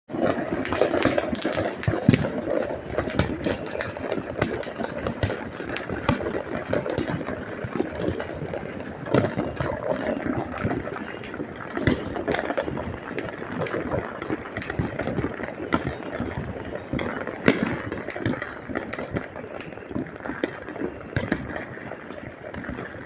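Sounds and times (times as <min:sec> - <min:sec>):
fireworks cracking and banging: 0:00.1 - 0:23.0.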